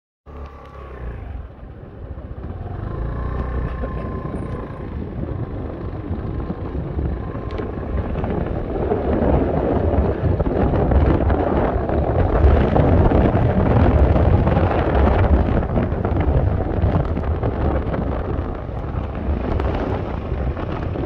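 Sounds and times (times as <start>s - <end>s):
road traffic rumble: 0.3s - 21.0s.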